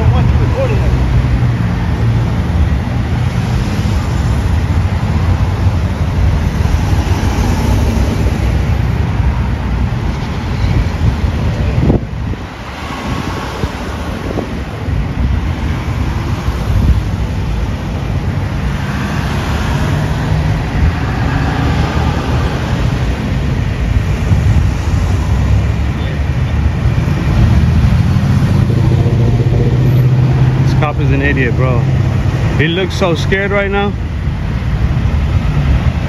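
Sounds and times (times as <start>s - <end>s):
wind buffeting microphone: 0.0s - 32.6s
cars driving past: 0.0s - 36.0s
engine hum: 0.0s - 36.0s.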